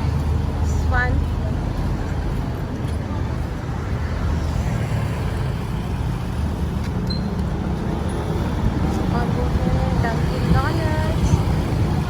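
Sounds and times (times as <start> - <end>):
road vehicles rumbling past: 0.0 - 12.0.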